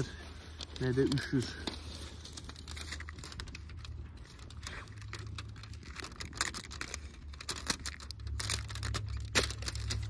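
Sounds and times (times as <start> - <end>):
aluminium tape crinkling: 0.0 - 10.0.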